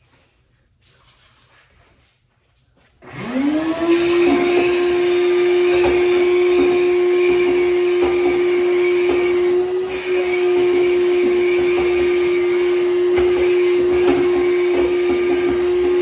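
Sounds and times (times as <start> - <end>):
vacuum cleaner motor whine: 3.0 - 16.0.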